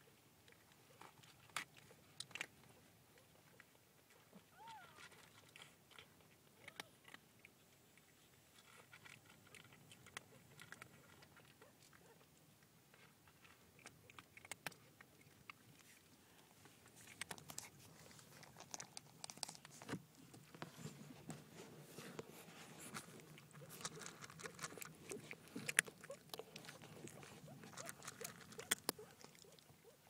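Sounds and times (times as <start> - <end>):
kittens crunching dry food: 0.1 - 30.0.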